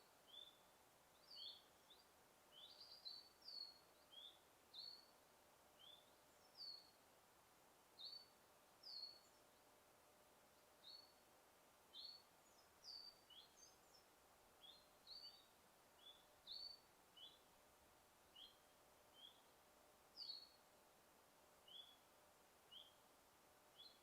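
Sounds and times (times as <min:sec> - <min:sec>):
small birds chirping: 0:00.0 - 0:07.0, 0:07.9 - 0:09.8, 0:10.4 - 0:20.8, 0:21.5 - 0:24.0
faint steady hiss: 0:00.0 - 0:24.0.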